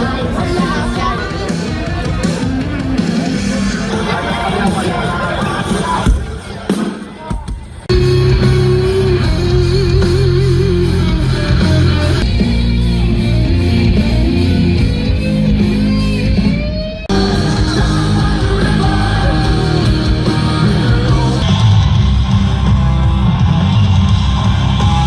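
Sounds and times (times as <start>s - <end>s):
rock music with guitars and singing: 0.0s - 25.0s.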